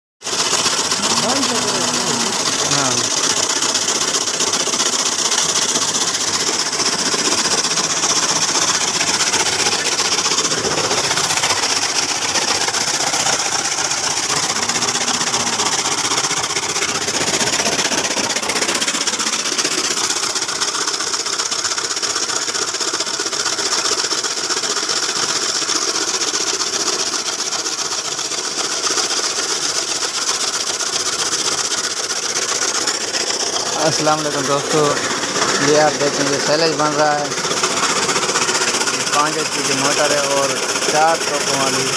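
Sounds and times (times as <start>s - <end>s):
chaff cutter whirring: 0.2s - 23.8s, 24.6s - 41.9s.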